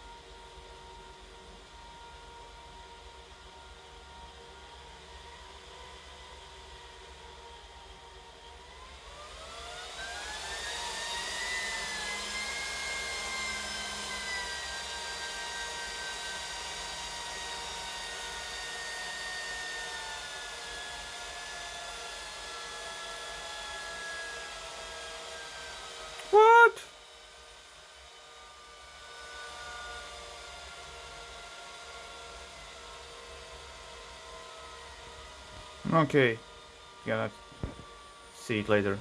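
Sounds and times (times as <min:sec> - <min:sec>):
server cooling fans whining: 0:00.0 - 0:39.0.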